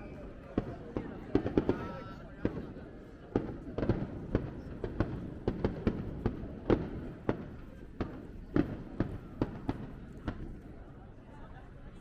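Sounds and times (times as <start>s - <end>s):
fireworks bangs with echo: 0.0s - 10.8s.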